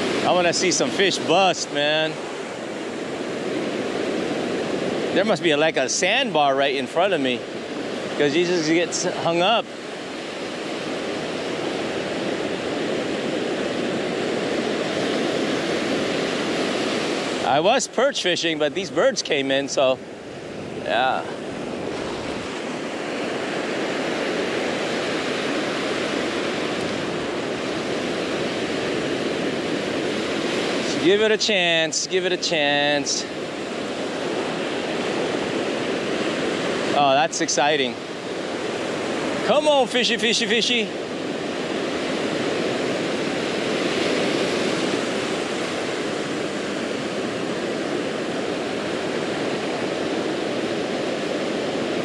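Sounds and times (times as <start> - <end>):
surf washing up beach: 0.0 - 52.0
waves breaking on sand: 0.0 - 52.0.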